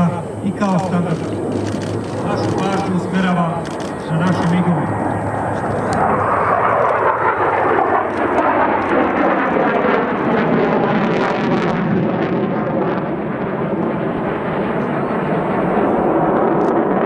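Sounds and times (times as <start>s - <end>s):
fighter jets passing overhead: 0.0s - 17.0s.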